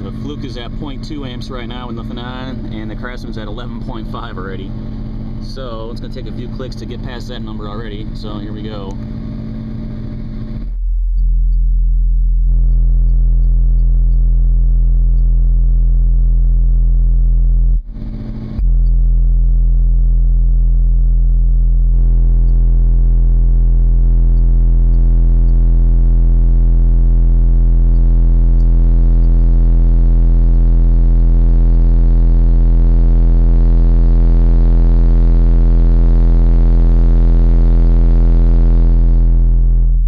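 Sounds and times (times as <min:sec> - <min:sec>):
harsh overtone buzz: 0:00.0 - 0:10.8, 0:16.8 - 0:40.0
deep bass test tone: 0:00.0 - 0:40.0.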